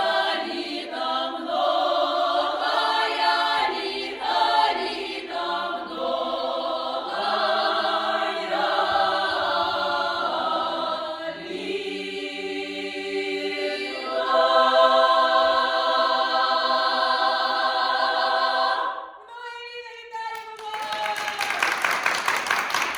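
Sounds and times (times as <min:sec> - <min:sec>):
choir singing unaccompanied: 0:00.0 - 0:19.3.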